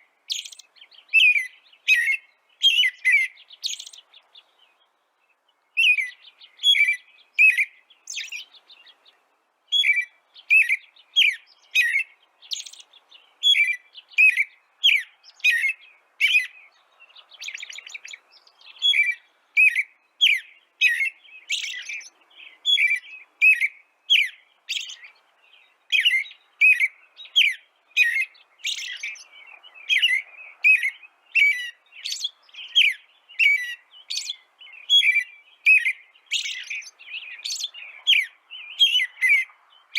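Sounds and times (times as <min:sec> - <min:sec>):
rapid bird trill: 0:00.0 - 0:04.4, 0:09.7 - 0:16.6, 0:17.3 - 0:25.2, 0:25.9 - 0:39.5
bird chirping: 0:00.0 - 0:39.9.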